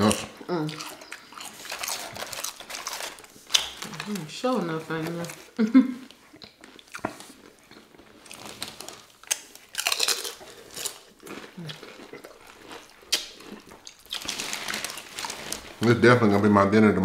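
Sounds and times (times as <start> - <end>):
crunching tortilla chips: 0.0 - 5.1, 6.5 - 16.5.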